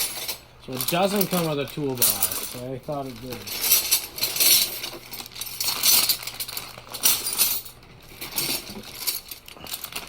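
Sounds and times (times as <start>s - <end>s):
steel tools clinking and jangling: 0.0s - 10.0s.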